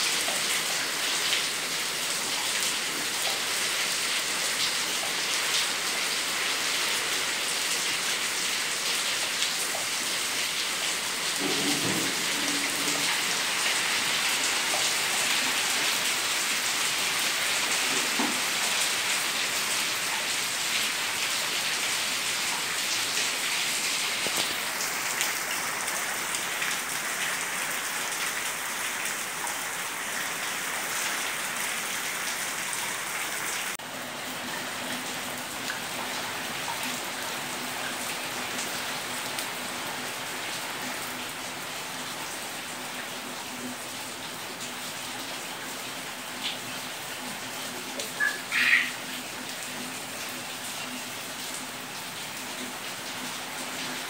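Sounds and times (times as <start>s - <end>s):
rain on stone and foliage: 0.0s - 54.0s.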